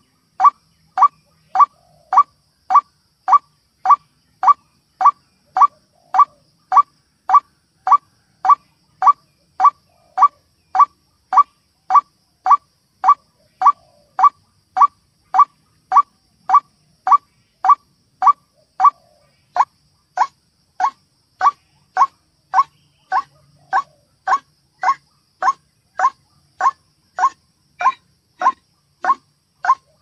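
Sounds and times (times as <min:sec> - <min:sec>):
waterhen call recording: 0:00.0 - 0:30.0.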